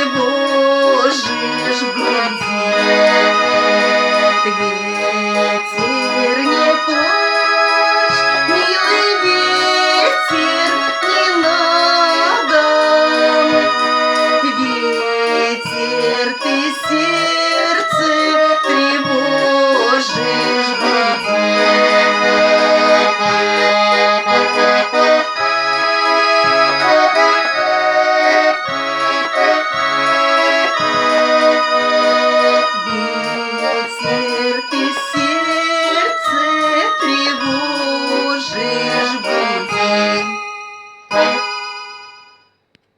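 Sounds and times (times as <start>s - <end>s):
button accordion melody: 0.0s - 42.4s.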